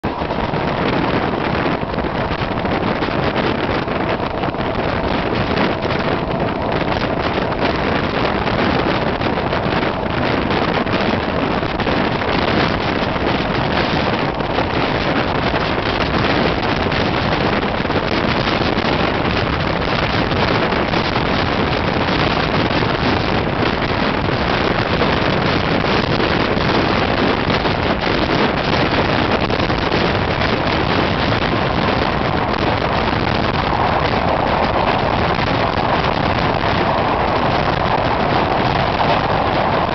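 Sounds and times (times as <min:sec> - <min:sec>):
train running noise: 0:00.0 - 0:39.9
wind buffeting microphone: 0:00.0 - 0:39.9.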